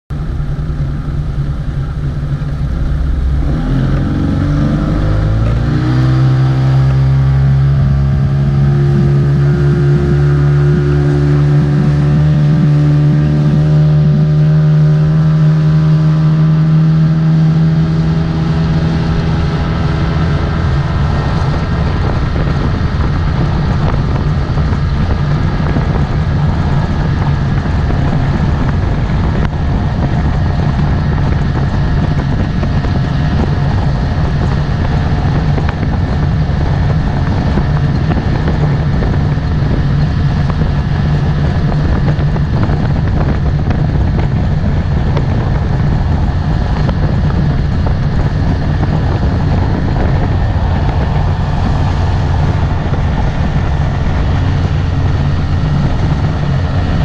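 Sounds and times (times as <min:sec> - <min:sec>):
motorboat engine running: 0:00.1 - 0:57.0
rush of wind and water: 0:00.1 - 0:57.0.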